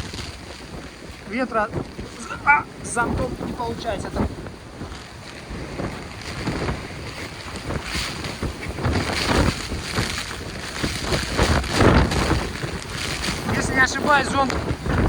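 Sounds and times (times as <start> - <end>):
rough sea: 0.0 - 15.0
wind gusts buffeting microphone: 0.0 - 15.0.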